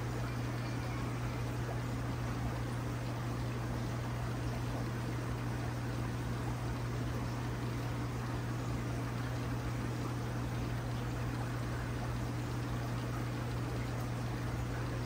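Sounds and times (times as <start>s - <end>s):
pump humming: 0.0s - 15.0s.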